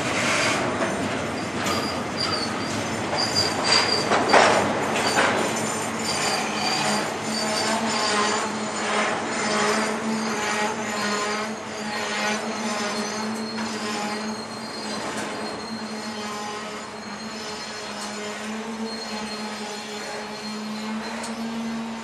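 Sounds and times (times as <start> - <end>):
freight cars rolling on rails: 0.0 - 22.0
train brake squeal: 0.0 - 22.0.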